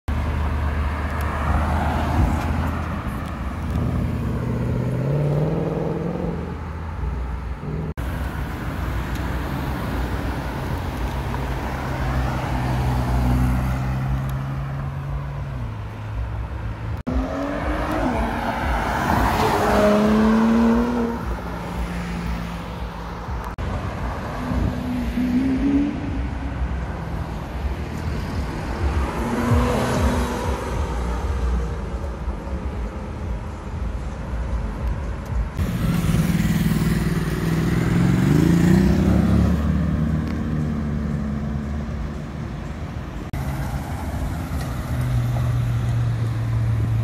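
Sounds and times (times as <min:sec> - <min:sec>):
sports car engines revving: 0:00.1 - 0:34.0, 0:35.5 - 0:47.0.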